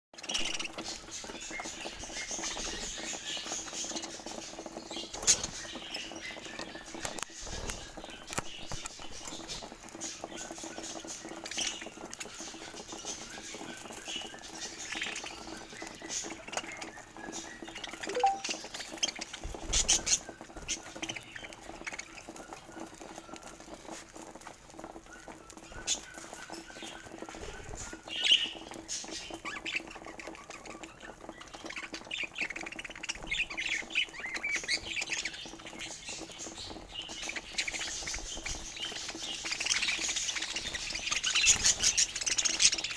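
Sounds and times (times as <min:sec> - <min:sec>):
budgerigars chirping and squawking: 0:00.2 - 0:24.0, 0:25.2 - 0:42.9
clicks and taps of birds moving: 0:00.2 - 0:42.9.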